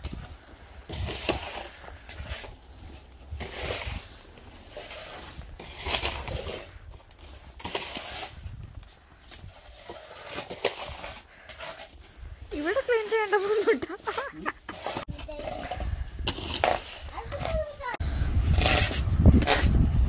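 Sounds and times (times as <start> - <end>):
snow shovel scraping pavers: 0.0 - 19.9.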